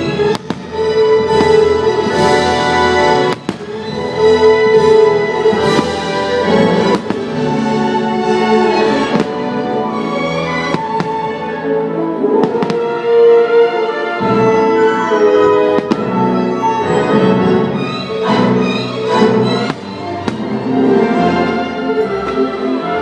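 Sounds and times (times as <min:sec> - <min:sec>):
fireworks bursting: 0:00.0 - 0:09.8, 0:10.4 - 0:11.6, 0:12.4 - 0:13.1, 0:14.5 - 0:17.4, 0:18.3 - 0:22.4
orchestral music with strings: 0:00.0 - 0:23.0.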